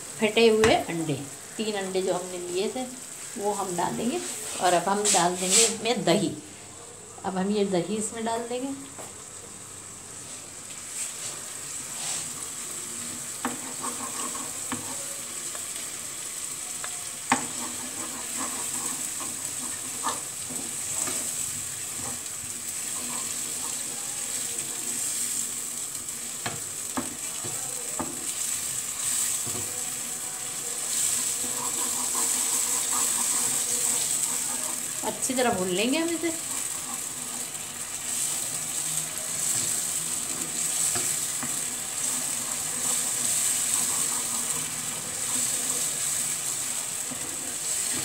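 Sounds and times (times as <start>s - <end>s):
masala sizzling in frying pan: 0.0s - 48.0s.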